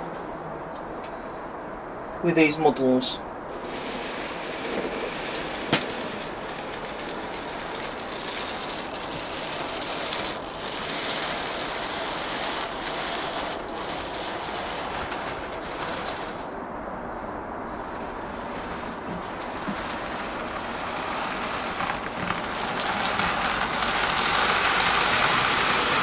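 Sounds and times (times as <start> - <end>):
steady hiss: 0.0 - 26.0
model locomotive running on track: 3.5 - 16.6, 17.7 - 26.0.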